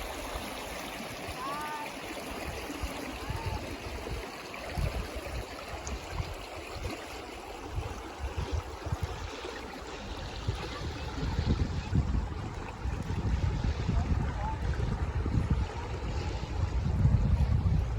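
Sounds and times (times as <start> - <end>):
stream water rushing: 0.0 - 17.8.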